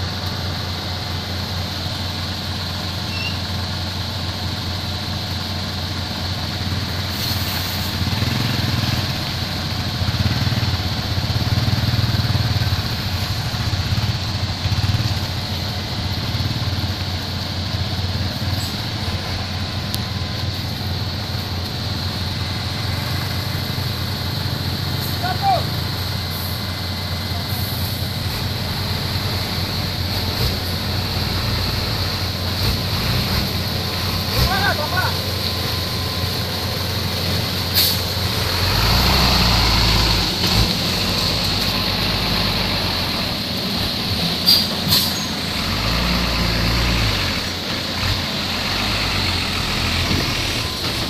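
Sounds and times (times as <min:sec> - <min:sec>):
truck diesel engine running: 0:00.0 - 0:51.0.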